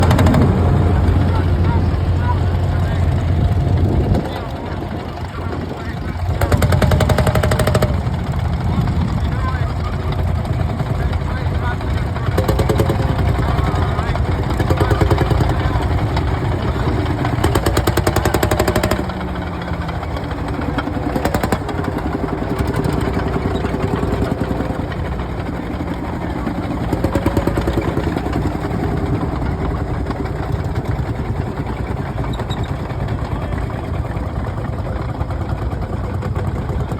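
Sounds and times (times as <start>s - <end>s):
diesel tractor engine running: 0.0s - 36.9s.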